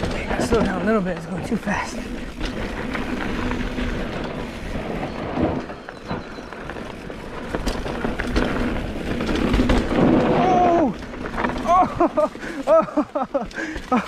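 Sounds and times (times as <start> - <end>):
bike knocks and rattles: 0.0 - 14.0
tyres rushing over dirt and gravel: 0.0 - 14.0.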